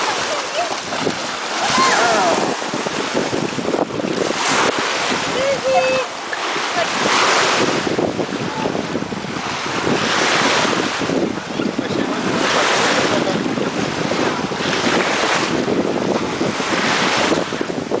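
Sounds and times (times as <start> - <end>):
sea waves splashing: 0.0 - 18.0
wind buffeting microphone: 0.0 - 18.0.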